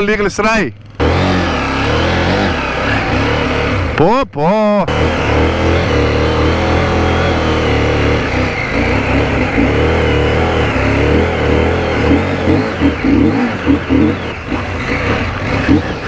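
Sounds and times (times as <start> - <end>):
motorcycle engine revving unevenly: 0.8 - 4.0, 4.8 - 16.0.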